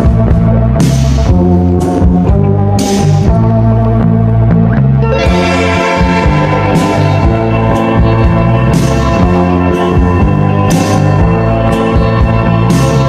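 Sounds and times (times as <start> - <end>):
organ-like music with beat: 0.0 - 4.4, 5.0 - 13.0.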